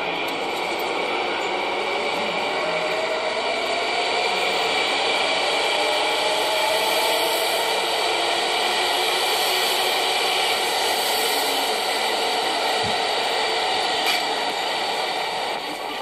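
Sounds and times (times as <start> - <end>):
train running past: 0.0 - 16.0.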